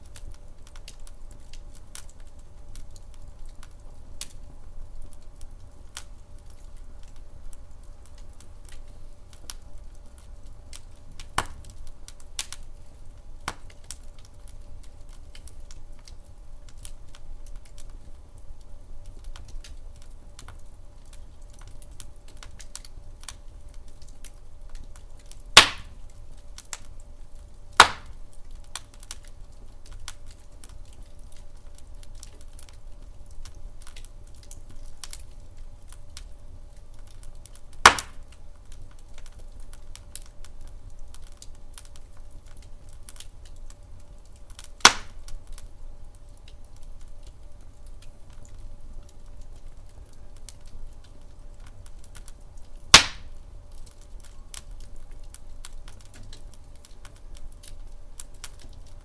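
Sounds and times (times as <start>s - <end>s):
loud fire pops: 0.0s - 18.2s, 19.0s - 36.3s, 36.9s - 45.7s, 49.2s - 59.0s
wood fire crackling: 0.0s - 59.0s.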